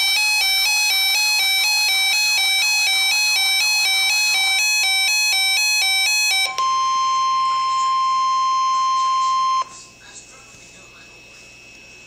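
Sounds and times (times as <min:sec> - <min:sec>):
steady alarm tone: 0:00.0 - 0:09.7.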